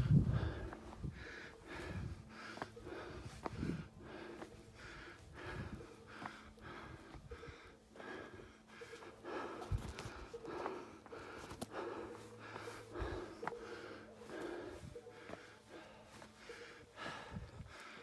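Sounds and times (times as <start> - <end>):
heavy rhythmic breathing: 0.0 - 18.0.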